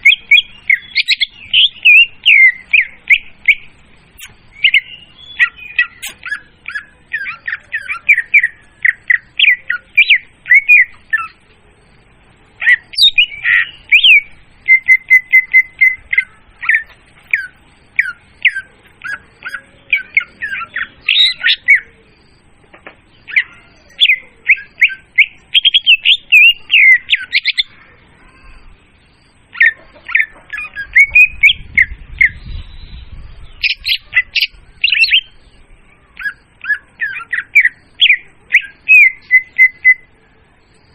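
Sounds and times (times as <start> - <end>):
bird chirping and whistling: 0.0 - 11.4, 12.6 - 22.4, 23.2 - 27.7, 28.4 - 35.6, 36.2 - 40.1.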